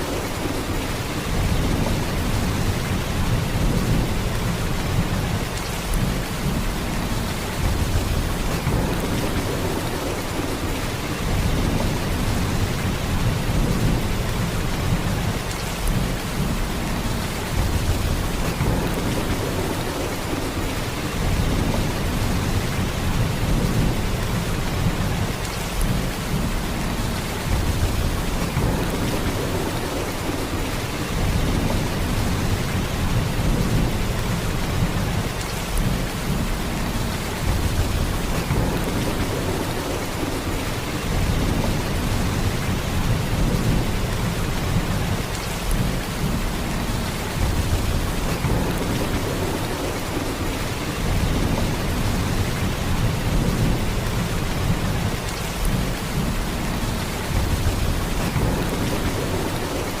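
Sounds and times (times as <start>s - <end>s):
heavy rain pouring: 0.0s - 60.0s.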